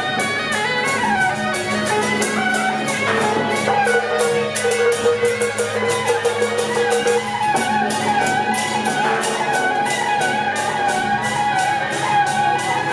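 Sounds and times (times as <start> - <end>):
fast percussion beat: 0.0 - 12.9
sustained melody: 0.0 - 12.9.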